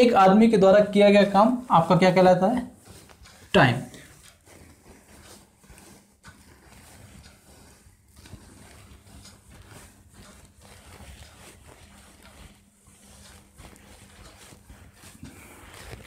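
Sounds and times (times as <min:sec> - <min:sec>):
duster wiping whiteboard: 0:00.0 - 0:16.0.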